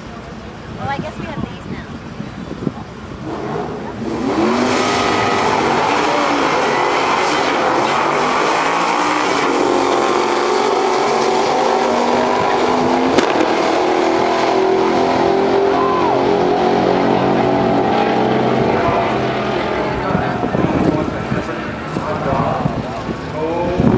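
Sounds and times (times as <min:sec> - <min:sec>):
drag car engines at full throttle: 0:00.0 - 0:23.9.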